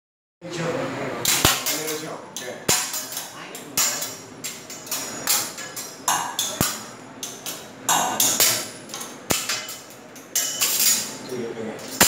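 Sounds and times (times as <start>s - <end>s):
metal spatulas clanging on griddle: 1.3s - 11.2s, 11.8s - 12.0s.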